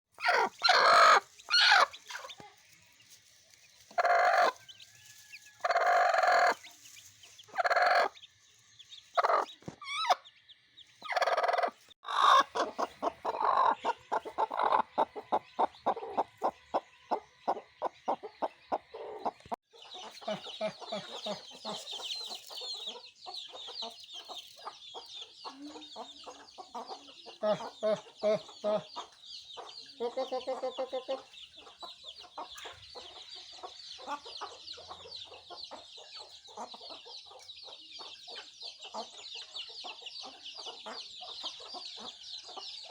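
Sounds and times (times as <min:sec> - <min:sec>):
hen clucking: 0:00.1 - 0:02.7, 0:03.8 - 0:04.8, 0:05.6 - 0:08.2, 0:09.1 - 0:10.4, 0:11.0 - 0:42.6
chickens calling loudly: 0:00.1 - 0:08.2, 0:09.1 - 0:42.9
chicks peeping: 0:00.1 - 0:42.9.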